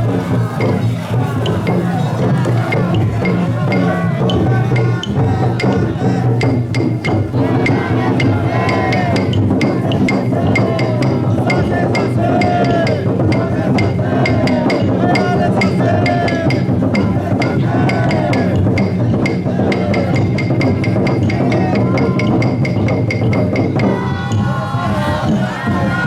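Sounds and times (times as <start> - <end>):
crowd chanting: 0.0 - 26.0
festival drum beating: 0.0 - 26.0
low din: 0.0 - 26.0.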